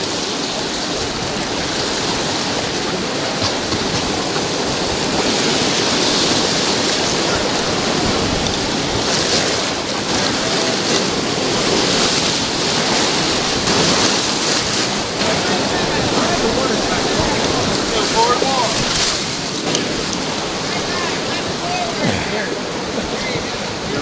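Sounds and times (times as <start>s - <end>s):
whitewater rushing: 0.0s - 24.0s.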